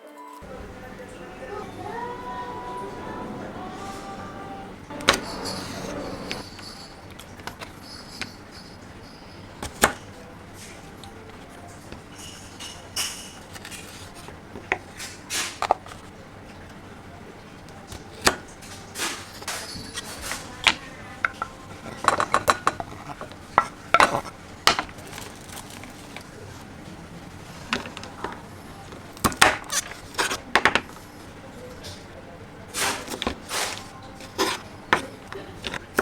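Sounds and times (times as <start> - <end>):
utensils and dishes clinking: 0.4 - 36.0.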